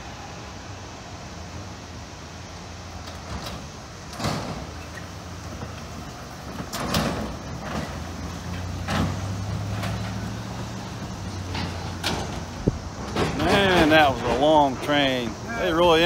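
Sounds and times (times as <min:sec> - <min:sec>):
low engine hum: 0:00.0 - 0:16.0
vehicles rolling over rails: 0:00.0 - 0:16.0
wheels thumping and rattling: 0:02.5 - 0:16.0.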